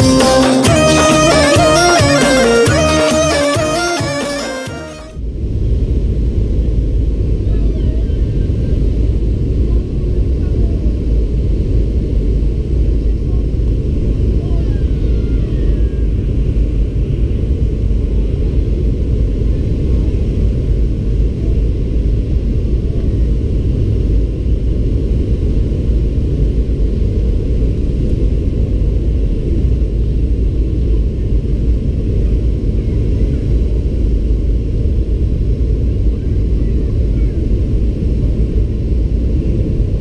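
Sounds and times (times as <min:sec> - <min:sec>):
airplane cabin engine rumble: 0:03.5 - 0:40.0.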